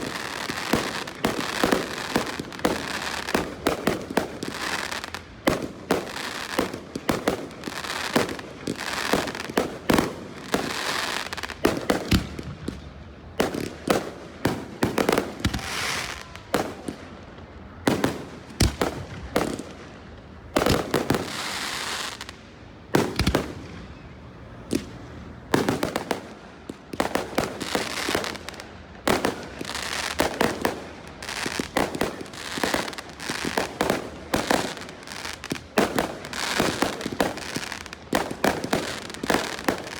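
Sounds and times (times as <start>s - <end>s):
fireworks hissing crackle: 0.0s - 17.0s, 18.0s - 24.1s, 24.7s - 39.9s
fireworks banging: 0.0s - 39.9s.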